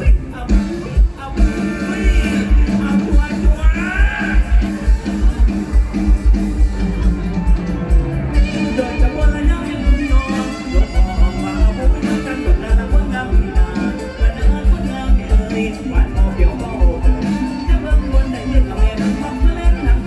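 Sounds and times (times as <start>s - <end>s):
band music with heavy bass beat: 0.0s - 20.0s.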